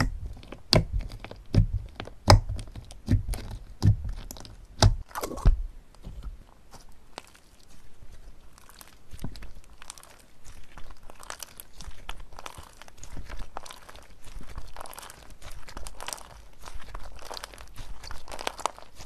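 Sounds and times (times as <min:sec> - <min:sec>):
crunchy slime crackling: 0:00.0 - 0:19.0.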